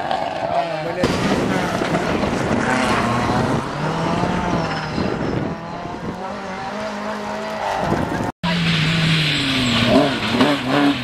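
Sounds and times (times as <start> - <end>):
loose gravel and tyres: 0.0 - 11.0.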